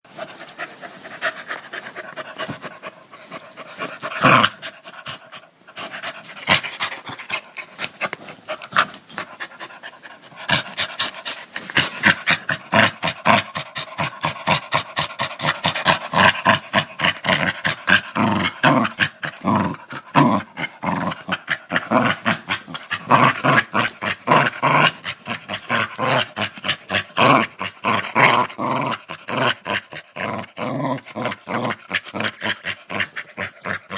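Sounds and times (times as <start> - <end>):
dog growling: 1.2 - 8.0, 10.4 - 33.9.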